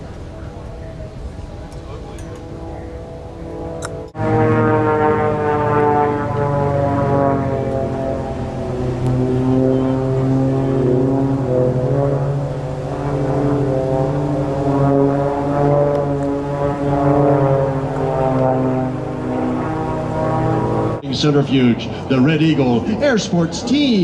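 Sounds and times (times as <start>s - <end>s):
propeller planes droning: 0.0s - 24.0s.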